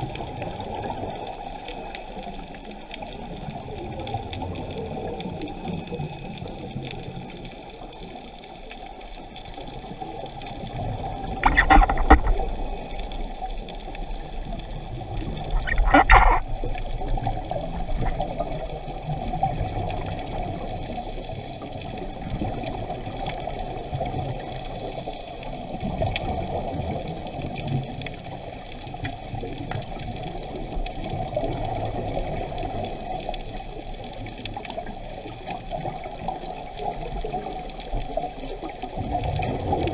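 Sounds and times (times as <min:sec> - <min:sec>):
scuba regulator bubbling: 0:00.0 - 0:39.9
underwater rush of water: 0:00.0 - 0:39.9.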